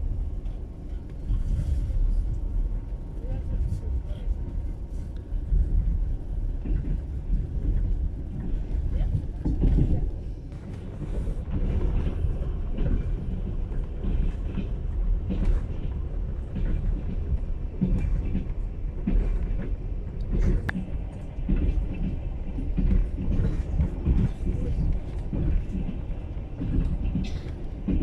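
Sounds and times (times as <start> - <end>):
train knocks and rattles: 0.0 - 28.0
train rumbling: 0.0 - 28.0.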